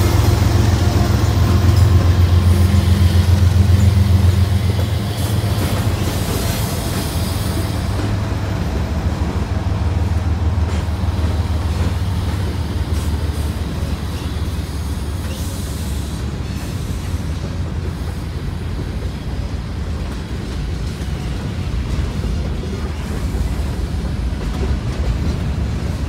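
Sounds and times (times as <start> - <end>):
diesel locomotive engine rumbling: 0.0 - 26.0
freight cars rolling by: 0.0 - 26.0.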